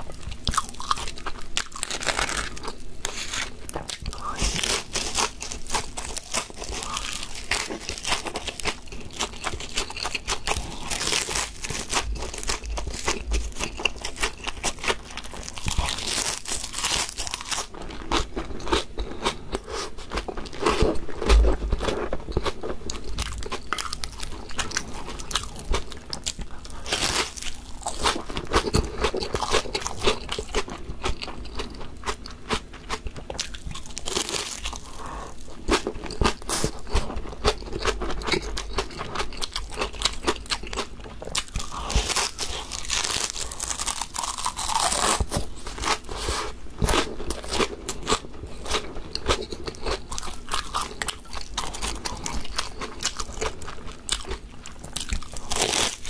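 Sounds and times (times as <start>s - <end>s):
crunching and chewing seaweed chips: 0.0s - 56.0s.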